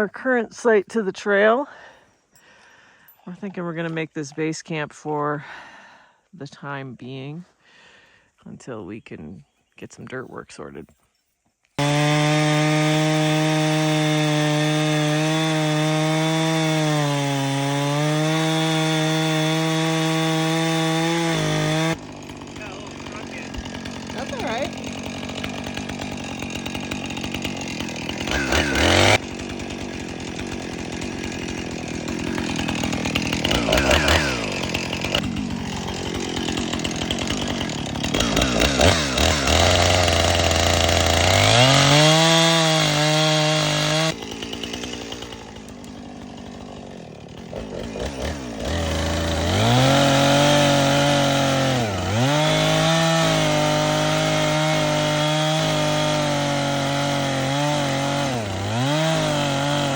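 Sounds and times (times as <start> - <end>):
chainsaw revving and idling: 11.8 - 59.9.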